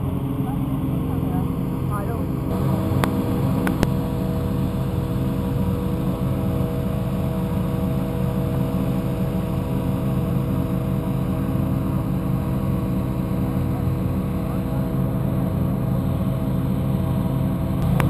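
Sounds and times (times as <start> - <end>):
inflator fan motor drone: 0.0 - 18.0.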